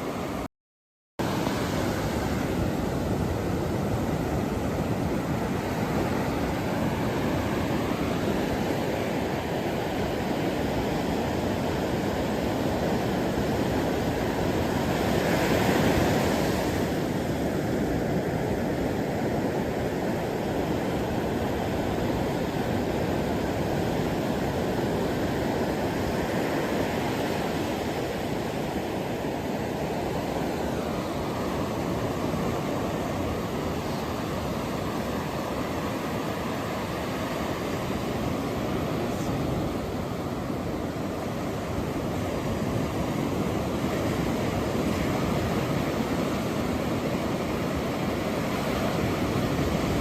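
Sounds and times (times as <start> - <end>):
ocean waves washing on shore: 0.0 - 0.5, 1.2 - 50.0.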